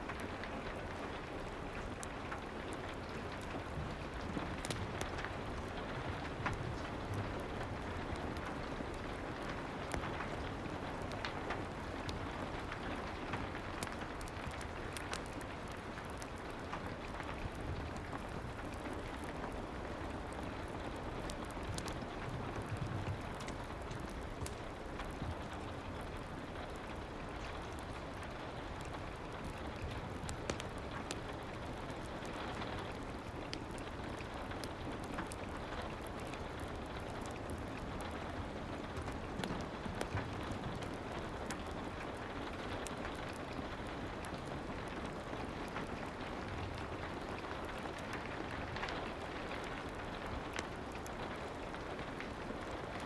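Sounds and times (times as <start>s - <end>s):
faint fire crackles: 0.0s - 53.0s
soft rain falling: 0.0s - 53.0s.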